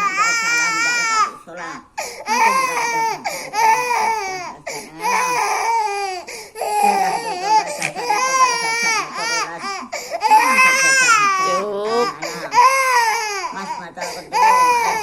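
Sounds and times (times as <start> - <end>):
baby crying: 0.0 - 15.0.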